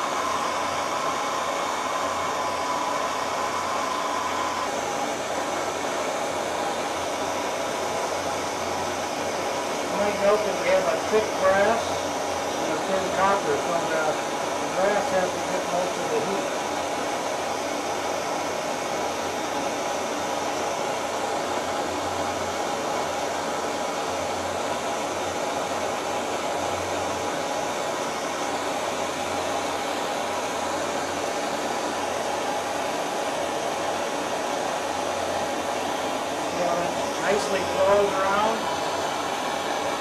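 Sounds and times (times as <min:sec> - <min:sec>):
gas torch flame hissing: 0:00.0 - 0:40.0.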